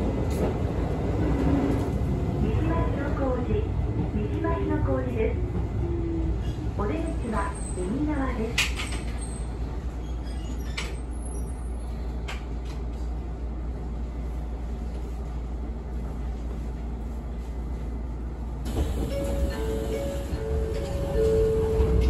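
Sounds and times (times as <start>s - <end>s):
electric train car low hum: 0.0s - 10.1s, 11.1s - 22.0s.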